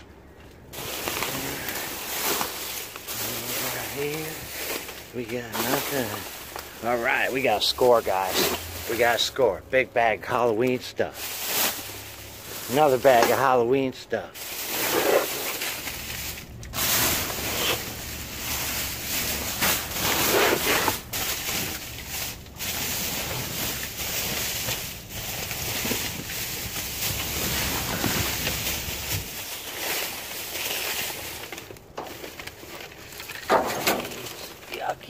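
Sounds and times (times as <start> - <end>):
low steady hum: 0.0 - 35.0
plastic trash bags rustling: 0.0 - 35.0.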